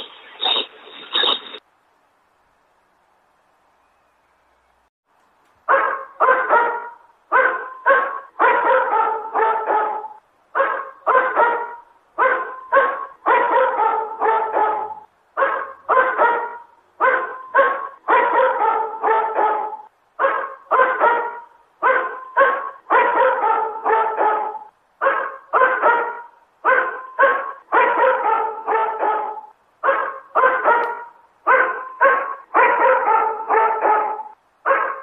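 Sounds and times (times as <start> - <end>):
dog barking: 5.7 - 35.0.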